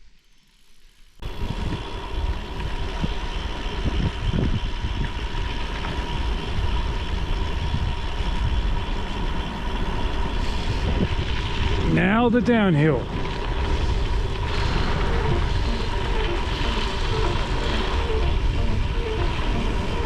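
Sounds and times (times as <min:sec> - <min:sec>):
bicycle tyres on gravel: 0:00.0 - 0:20.0
wind on microphone: 0:01.2 - 0:09.3, 0:10.1 - 0:12.2, 0:13.0 - 0:20.0.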